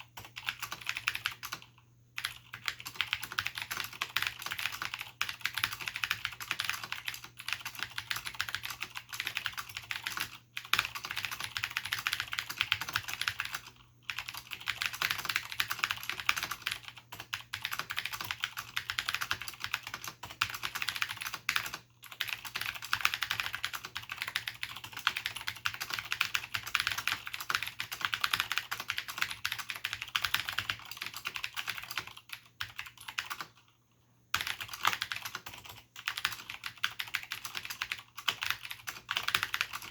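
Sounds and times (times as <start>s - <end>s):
fast keyboard typing clicks: 0.0s - 39.9s.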